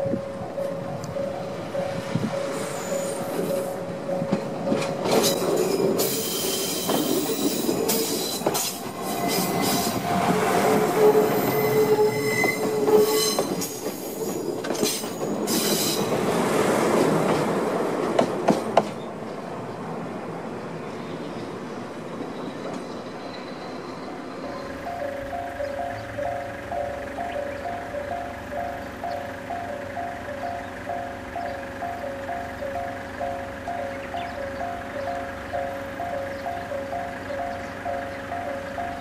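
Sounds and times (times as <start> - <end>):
wheels squealing on rails: 0.0 - 17.6, 20.9 - 39.0
wheels clacking over rail joints: 0.0 - 19.3, 24.3 - 39.0.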